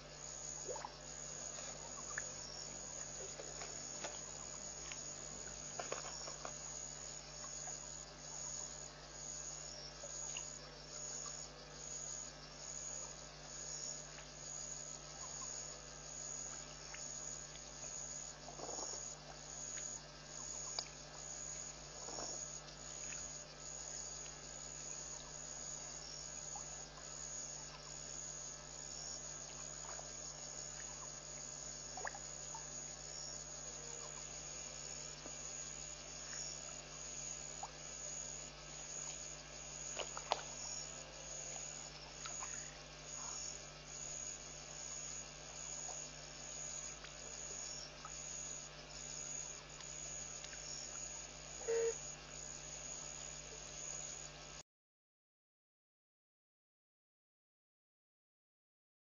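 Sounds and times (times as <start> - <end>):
night insects chirring: 0.0 - 54.6
steady low hum: 0.0 - 54.6.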